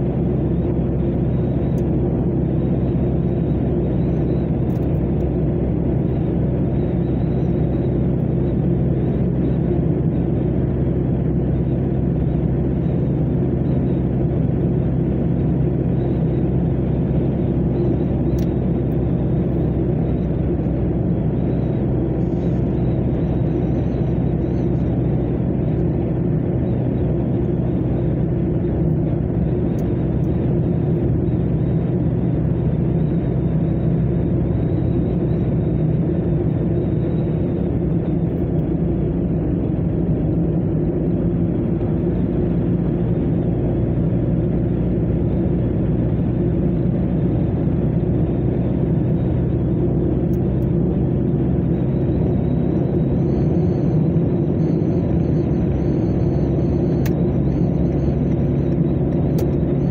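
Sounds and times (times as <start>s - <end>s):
car engine drone: 0.0s - 59.9s.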